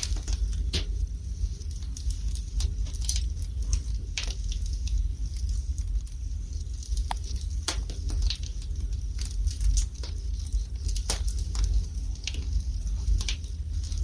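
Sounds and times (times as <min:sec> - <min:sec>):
fire low rumble: 0:00.0 - 0:14.0
wood fire crackling: 0:00.0 - 0:14.0.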